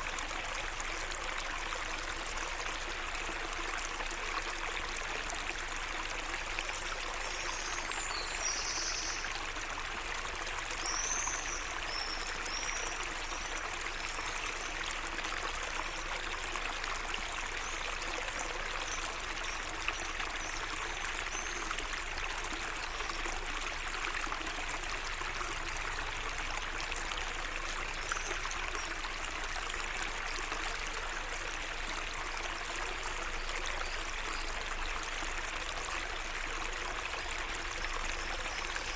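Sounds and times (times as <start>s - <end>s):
water flowing and trickling: 0.0s - 38.9s.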